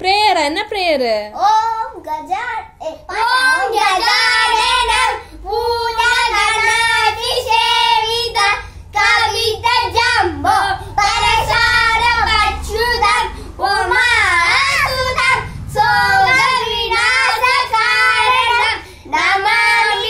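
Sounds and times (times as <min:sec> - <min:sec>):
children singing: 0:03.1 - 0:20.0.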